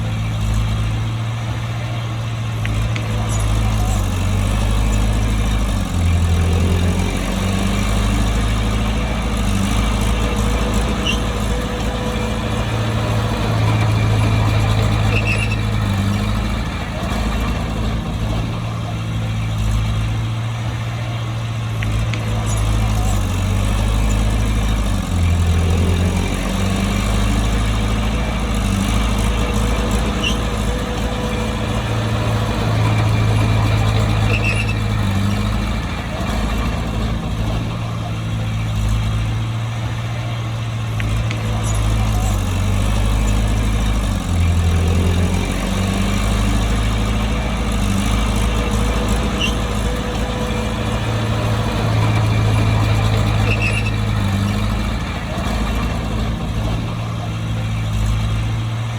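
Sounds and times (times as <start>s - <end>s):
bulldozer diesel engine: 0.0s - 58.9s.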